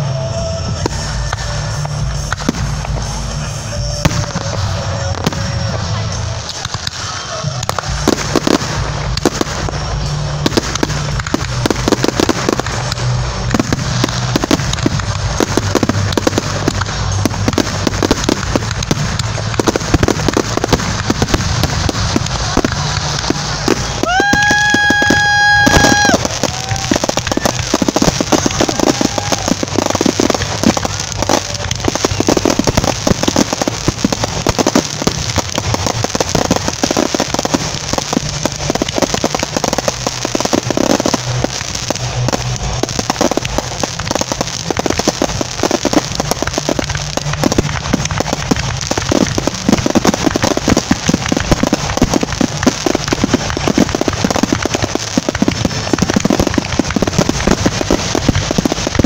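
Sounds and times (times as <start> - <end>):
crackling firework stars: 0.0 - 59.0
low rumble: 0.0 - 59.0
firework shells bursting: 3.9 - 59.0.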